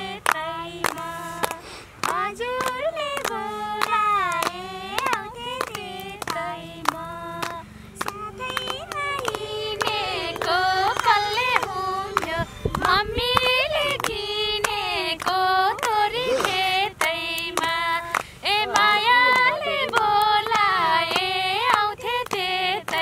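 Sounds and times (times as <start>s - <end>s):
women and girl singing folk song: 0.0s - 23.0s
hand-clapping: 0.2s - 23.0s.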